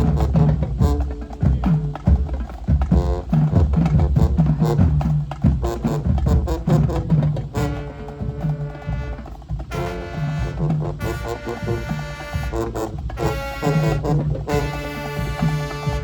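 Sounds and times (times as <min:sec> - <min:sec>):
rapid drum strokes: 0:00.0 - 0:16.0.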